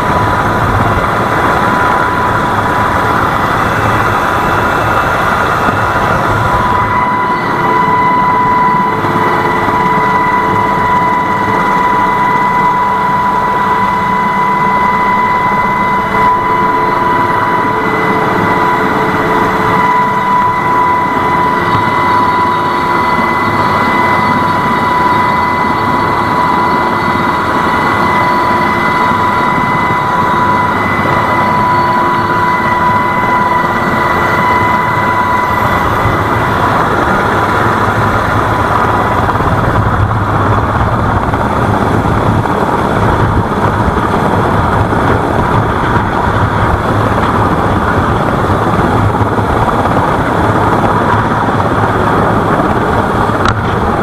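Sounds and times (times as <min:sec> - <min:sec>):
engine noise: 0:00.0 - 0:54.0
high even whine: 0:00.0 - 0:54.0.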